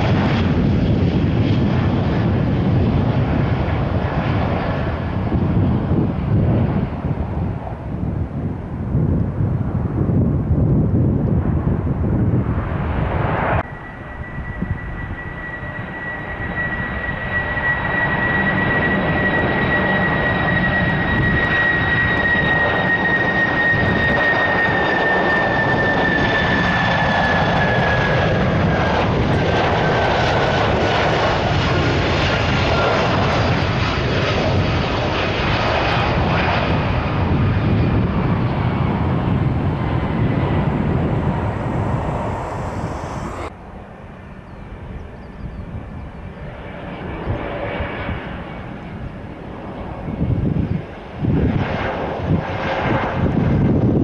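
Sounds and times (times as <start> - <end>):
jet engines with high whine: 0.0 - 54.0.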